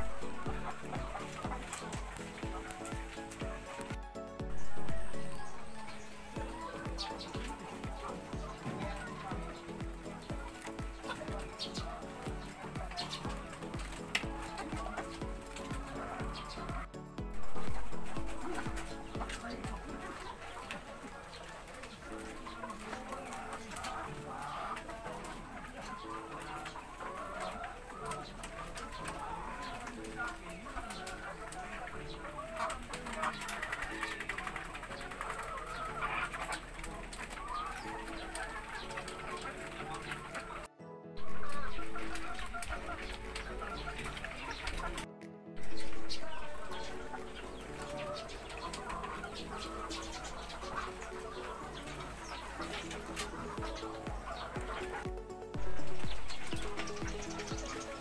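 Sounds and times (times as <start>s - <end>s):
hens clucking: 0.0s - 58.0s.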